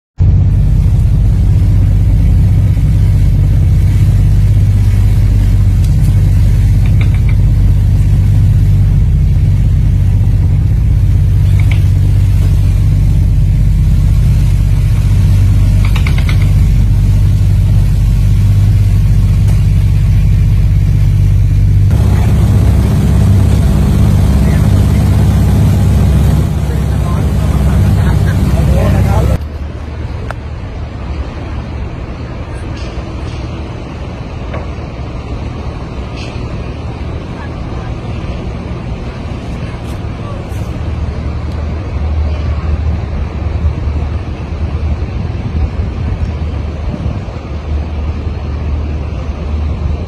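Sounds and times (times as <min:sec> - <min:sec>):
boat engine droning: 0:00.2 - 0:50.0.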